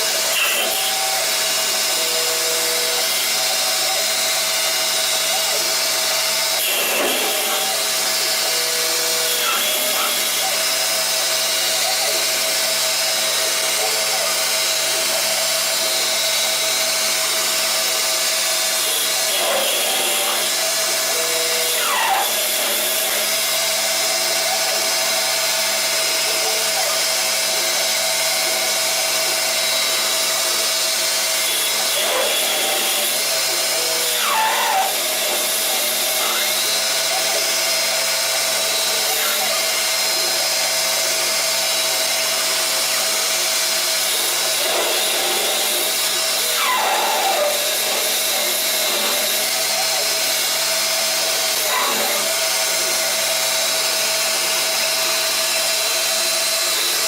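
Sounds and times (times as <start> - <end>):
lathe machine whine and hum: 0.0 - 57.0.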